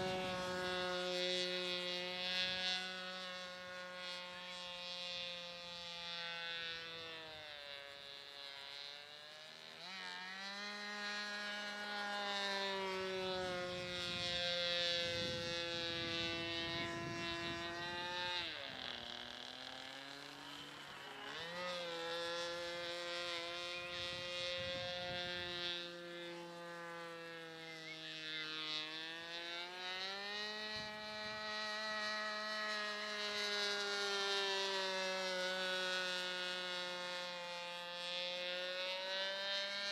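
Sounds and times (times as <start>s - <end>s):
model airplane engine buzzing: 0.0s - 39.9s.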